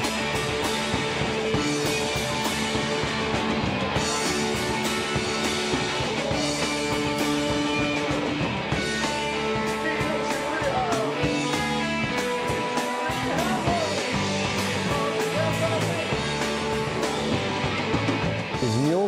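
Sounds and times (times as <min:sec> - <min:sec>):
bass guitar: 0:00.0 - 0:19.0
electric guitar: 0:00.0 - 0:19.0.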